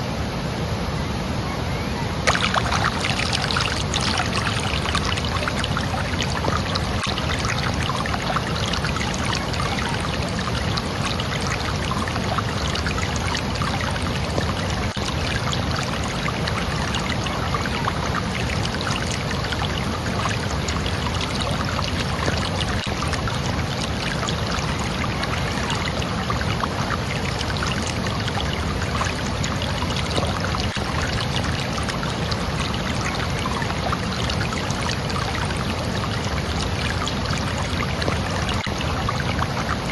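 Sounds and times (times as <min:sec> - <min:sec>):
running water splashing: 0:02.2 - 0:39.9.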